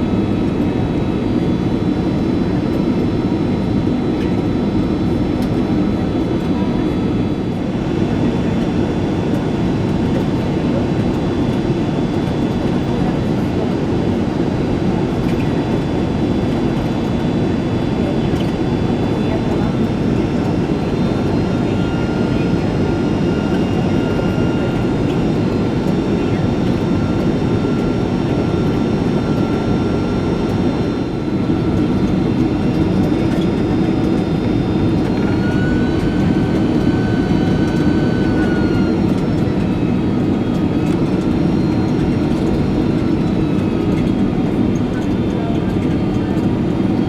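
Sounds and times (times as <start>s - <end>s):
airflow rushing in aircraft cabin: 0.0s - 47.0s
jet engine noise: 0.0s - 47.0s.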